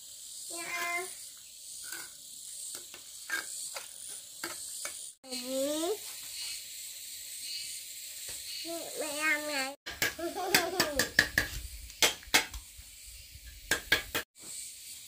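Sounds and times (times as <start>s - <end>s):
insects chirring: 0.0s - 9.8s, 11.5s - 15.0s.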